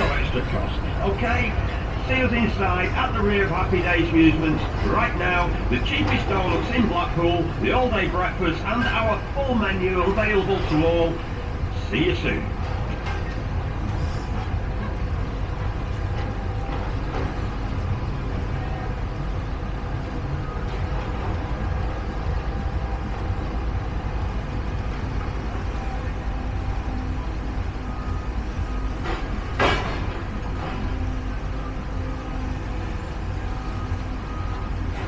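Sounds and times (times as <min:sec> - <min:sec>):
heavy engines rumbling: 0:00.0 - 0:35.0.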